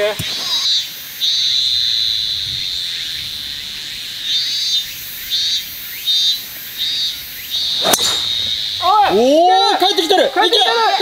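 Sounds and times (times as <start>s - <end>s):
insects shrilling: 0.2s - 9.8s.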